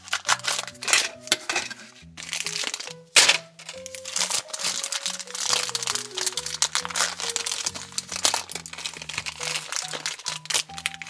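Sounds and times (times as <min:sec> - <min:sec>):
background music: 0:00.0 - 0:11.0
plastic bag crinkling: 0:00.0 - 0:11.0.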